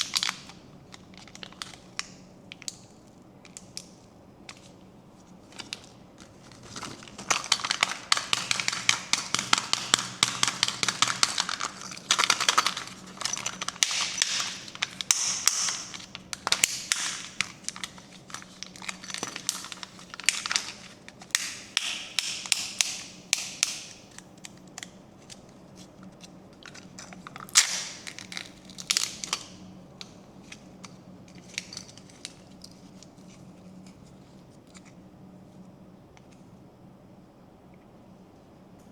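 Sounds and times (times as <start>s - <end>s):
wrapper crinkling and crackling: 0.0s - 34.9s.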